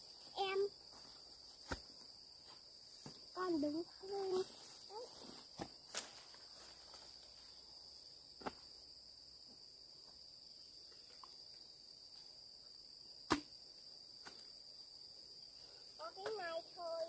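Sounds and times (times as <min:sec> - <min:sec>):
insect chirring: 0:00.0 - 0:17.0.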